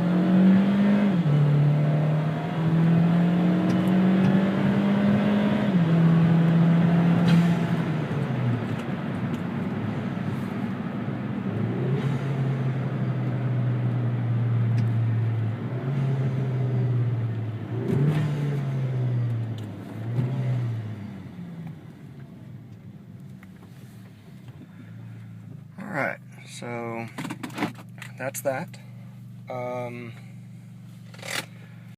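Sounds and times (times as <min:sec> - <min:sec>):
car engine from inside cabin: 0:00.0 - 0:31.8.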